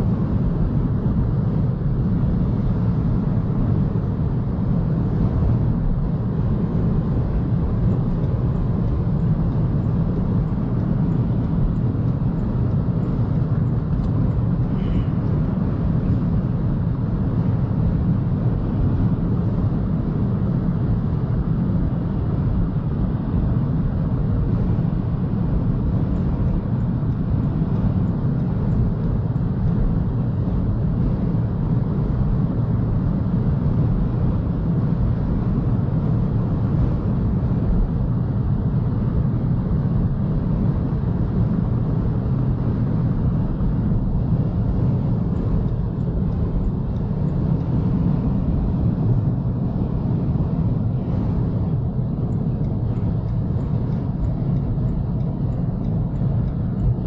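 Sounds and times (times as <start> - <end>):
tyre and wind noise rumble: 0.0 - 57.0.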